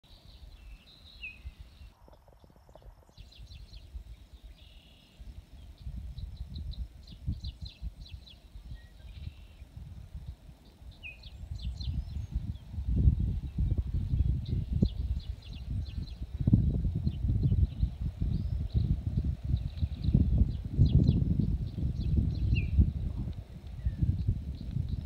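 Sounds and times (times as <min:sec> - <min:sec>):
small birds chirping: 0:00.0 - 0:25.0
low uneven rumble: 0:01.9 - 0:25.0.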